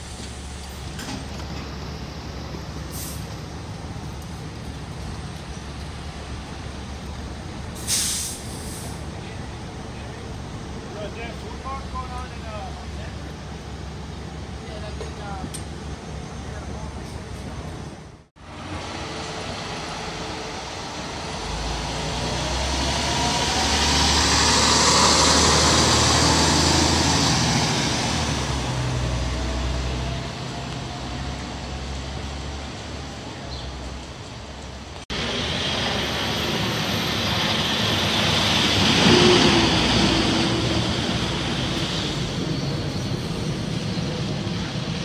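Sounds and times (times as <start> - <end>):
fire engine driving past: 0.0 - 45.0
ladder truck passing close: 0.0 - 45.0.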